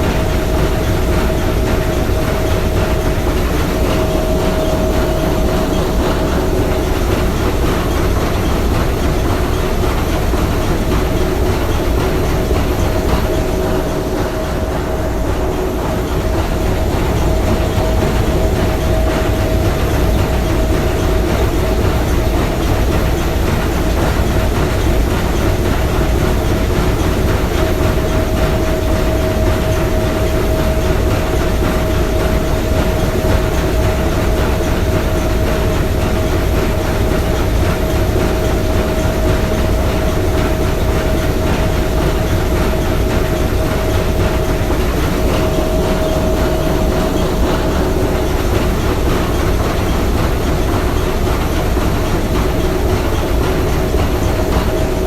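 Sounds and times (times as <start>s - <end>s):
steady whine: 0.0s - 55.0s
steam engine running: 0.0s - 55.0s.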